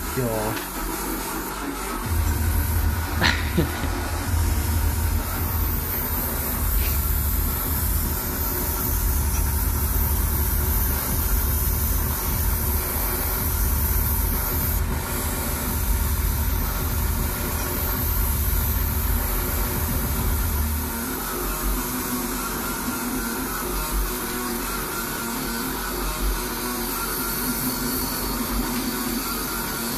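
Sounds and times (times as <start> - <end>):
air hissing through airbrush: 0.0 - 29.9
compressor motor humming: 0.0 - 29.9.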